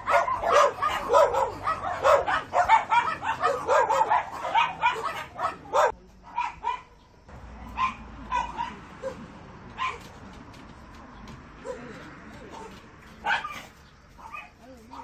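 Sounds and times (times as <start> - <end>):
dogs barking: 0.0 - 7.0, 7.6 - 10.1, 11.6 - 15.0.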